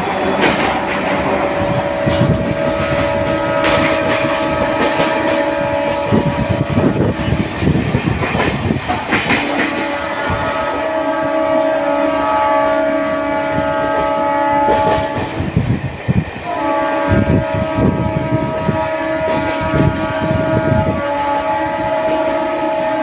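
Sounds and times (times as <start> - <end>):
train horn blasts: 0.0 - 7.8, 9.3 - 15.6, 16.4 - 23.0
train wheels clattering on rails: 0.0 - 11.0, 13.6 - 21.2.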